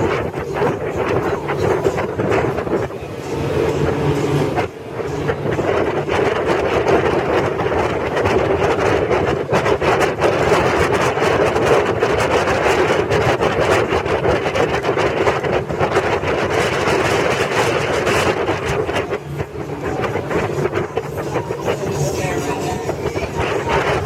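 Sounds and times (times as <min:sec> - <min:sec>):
motor boat engine: 0:00.0 - 0:24.0
rushing water: 0:00.0 - 0:24.0.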